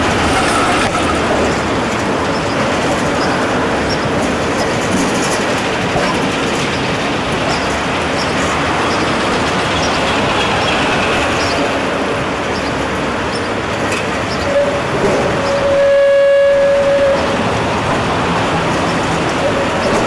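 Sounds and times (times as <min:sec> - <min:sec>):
tram wheels rumbling on rail: 0:00.0 - 0:20.0.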